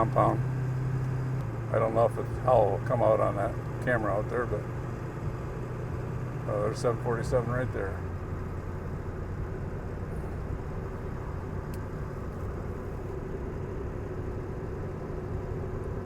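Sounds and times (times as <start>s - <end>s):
engine hum: 0.0s - 16.0s
road noise: 0.0s - 16.0s.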